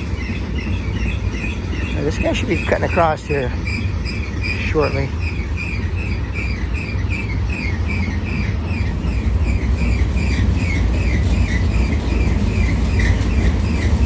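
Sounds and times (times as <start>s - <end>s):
diesel locomotives droning: 0.0s - 14.0s.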